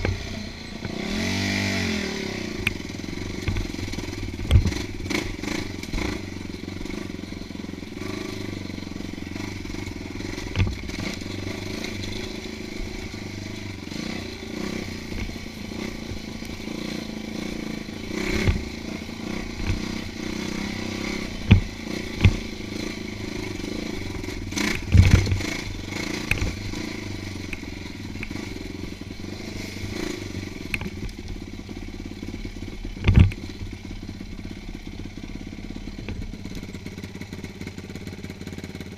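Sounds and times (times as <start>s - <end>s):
dirt bike engine running: 0.0s - 38.9s
bike knocking and thumping: 2.6s - 7.8s, 8.5s - 32.0s, 32.8s - 34.4s, 36.0s - 38.8s.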